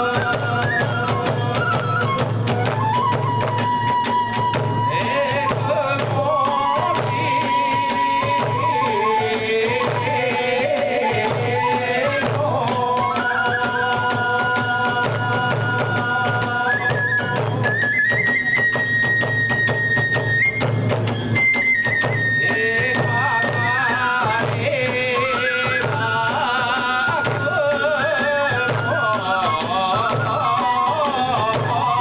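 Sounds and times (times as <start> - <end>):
bamboo flute melody: 0.0 - 32.0
drum beats: 0.0 - 32.0.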